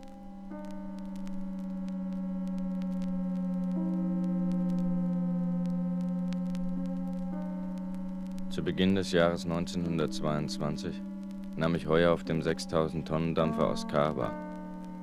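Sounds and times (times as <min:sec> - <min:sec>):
low electronic drone music: 0:00.0 - 0:15.0.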